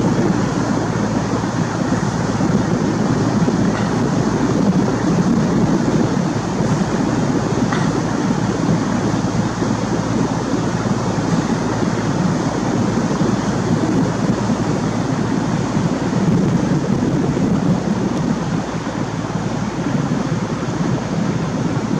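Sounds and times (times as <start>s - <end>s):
sea water rushing: 0.0s - 21.9s
wind: 0.0s - 21.9s.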